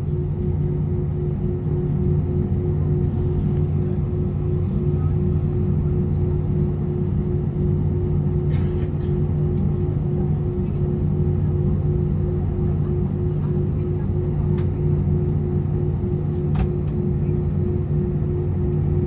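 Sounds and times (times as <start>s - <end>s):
aircraft cabin rumble: 0.0s - 19.0s
constant hum: 0.0s - 19.0s.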